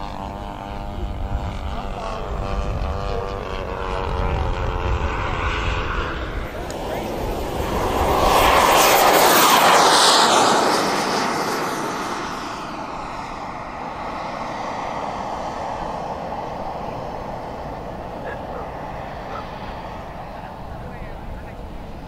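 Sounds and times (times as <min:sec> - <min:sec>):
jet turbine roaring and whistling: 0:00.0 - 0:22.0.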